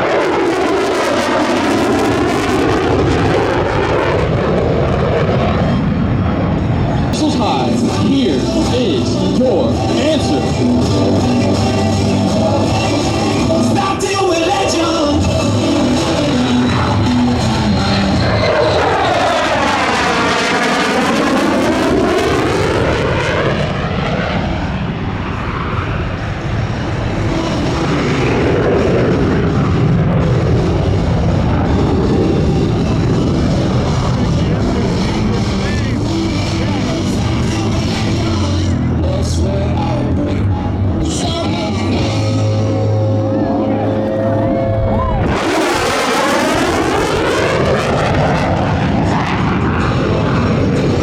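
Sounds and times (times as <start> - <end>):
airplane engine roaring overhead: 0.0 - 51.0.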